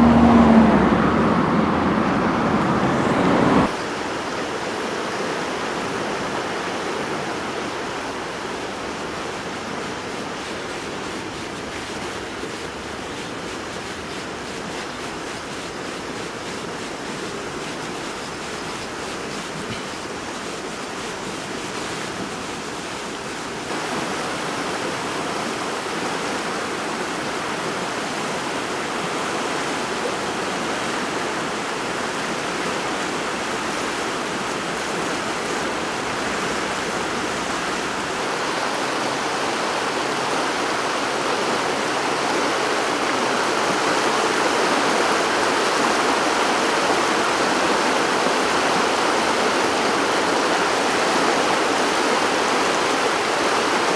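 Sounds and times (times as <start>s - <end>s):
rushing river in flood: 0.0s - 53.9s.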